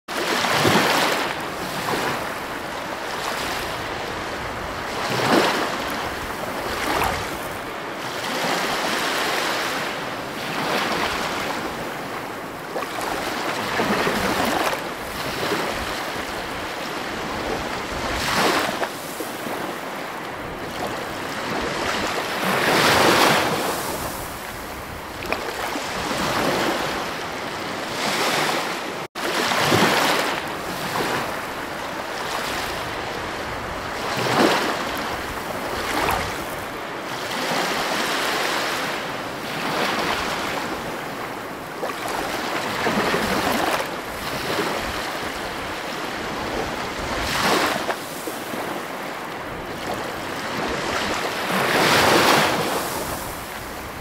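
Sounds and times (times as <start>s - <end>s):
ocean waves breaking: 0.1s - 54.0s.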